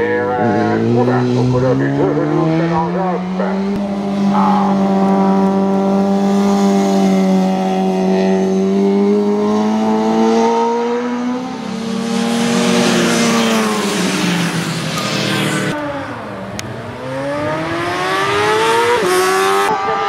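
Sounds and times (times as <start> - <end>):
motorcycle rushing past: 0.0 - 20.0
racing motorcycle engine revving: 0.0 - 20.0.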